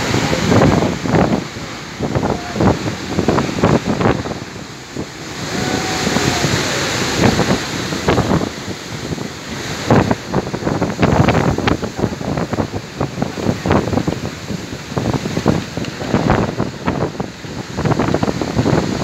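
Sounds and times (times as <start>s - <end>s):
waves breaking on rocks: 0.0s - 19.0s
wind buffeting microphone: 0.0s - 19.0s.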